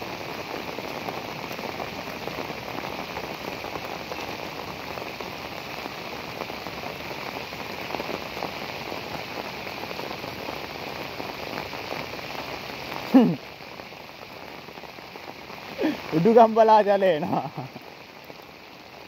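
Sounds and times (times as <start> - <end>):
heavy rain on flooded fields: 0.0 - 19.0.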